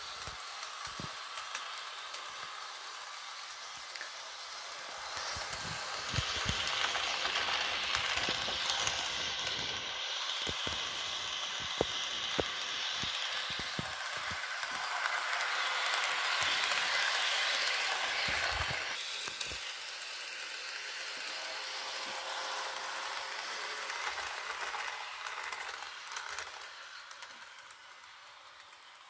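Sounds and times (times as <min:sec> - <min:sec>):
model train motor whirr: 0:00.0 - 0:29.0.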